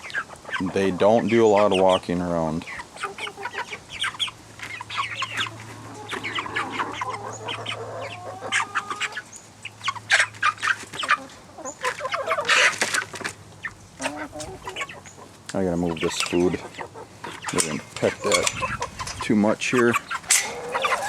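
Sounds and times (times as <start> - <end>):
chickens clucking and cheeping: 0.0 - 21.0.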